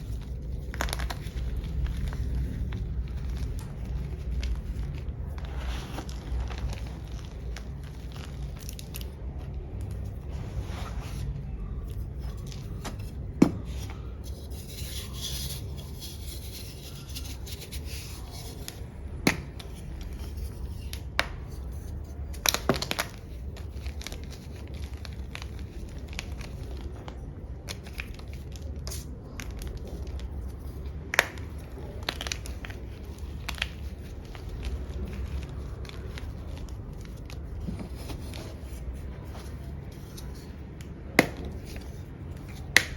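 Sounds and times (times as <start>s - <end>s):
chalk cracking: 0.0s - 42.9s
chalk crumbling and rubbing: 0.0s - 42.9s
low steady hum: 0.0s - 42.9s.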